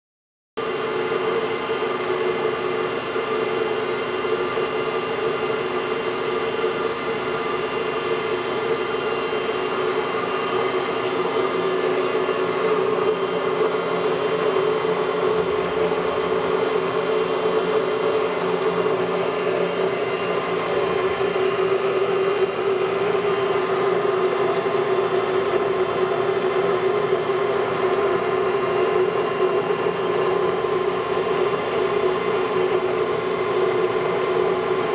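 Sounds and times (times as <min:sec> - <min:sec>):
lathe running: 0:00.6 - 0:34.9.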